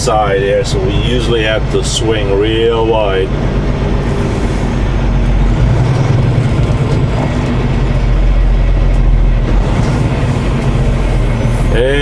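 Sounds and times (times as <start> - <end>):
truck diesel engine rumble: 0.0 - 12.0.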